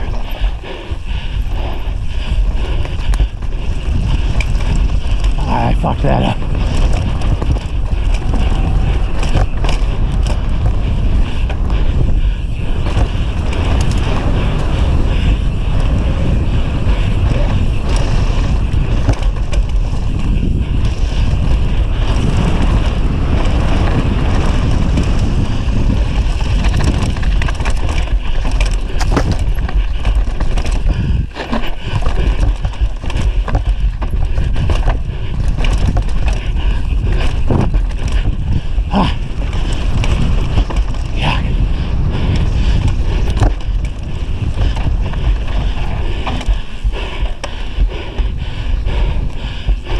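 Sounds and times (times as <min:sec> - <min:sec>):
bike rattling and knocking: 0:00.0 - 0:49.9
tyres running over dirt and rocks: 0:00.0 - 0:49.9
wind buffeting microphone: 0:00.0 - 0:49.9.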